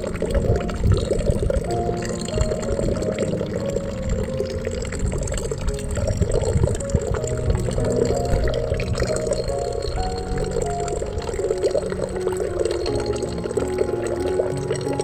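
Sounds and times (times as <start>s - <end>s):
running water: 0.0s - 15.0s
soft held musical tones: 0.0s - 15.0s.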